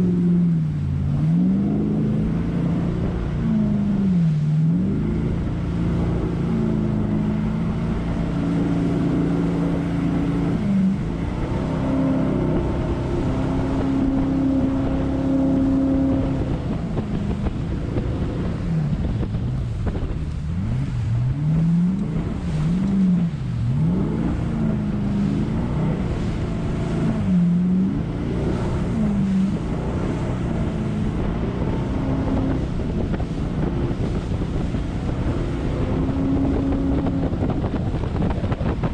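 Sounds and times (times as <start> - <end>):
jet boat engine running: 0.0 - 38.9
water rushing: 0.0 - 38.9
wind on microphone: 0.0 - 38.9.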